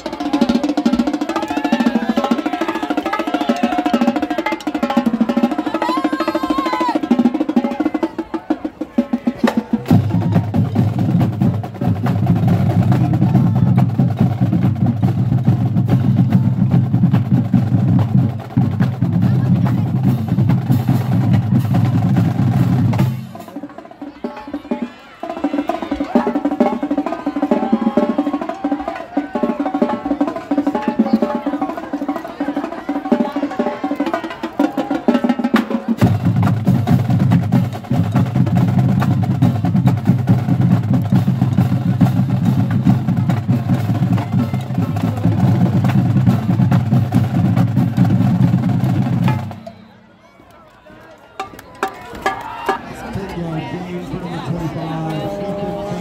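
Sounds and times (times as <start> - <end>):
marching band playing: 0.0 - 50.1, 51.4 - 56.0.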